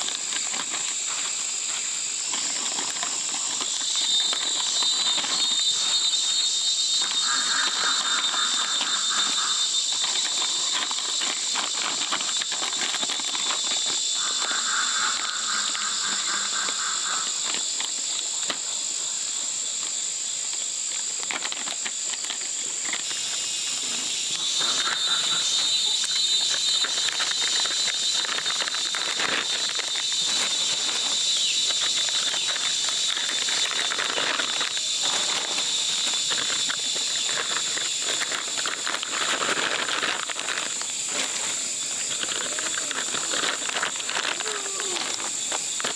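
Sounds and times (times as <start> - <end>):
insects shrilling: 0.0 - 45.9
low pulsing insect call: 0.0 - 45.9.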